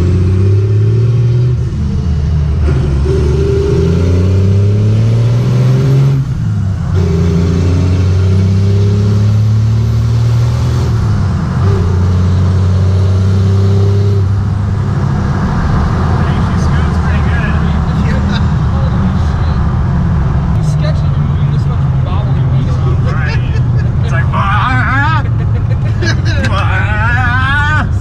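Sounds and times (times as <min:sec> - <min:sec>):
diesel engine accelerating: 0:00.0 - 0:28.0.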